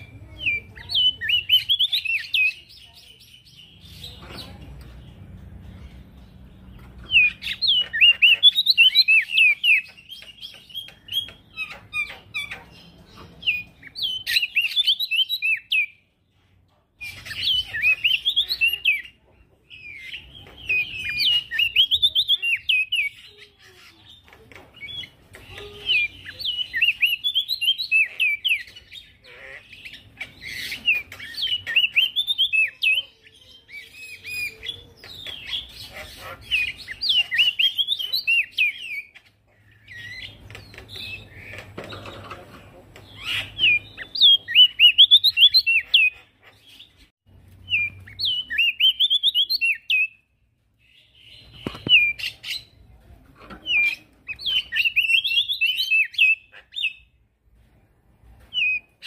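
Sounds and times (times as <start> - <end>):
bird chirping warbles: 0.0 - 52.9.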